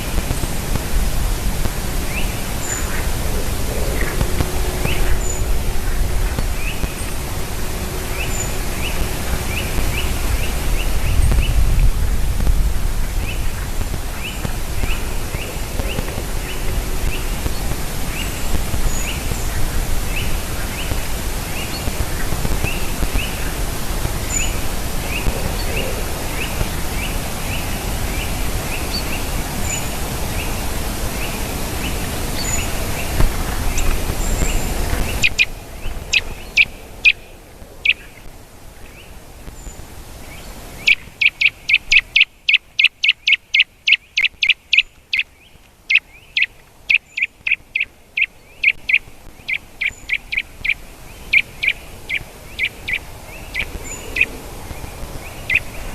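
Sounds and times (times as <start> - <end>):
background hiss and low rumble: 0.0 - 55.9.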